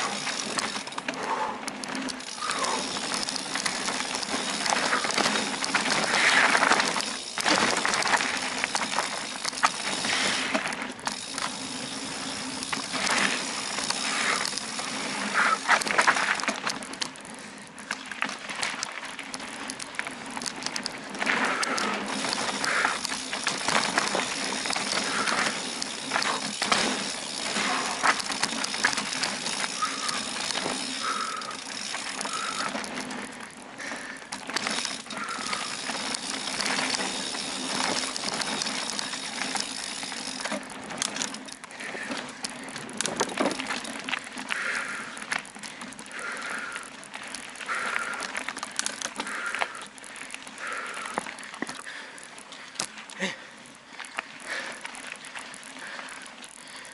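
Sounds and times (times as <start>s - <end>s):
bike chain and frame rattling: 0.0s - 56.9s
bike tyres on dirt: 0.0s - 56.9s.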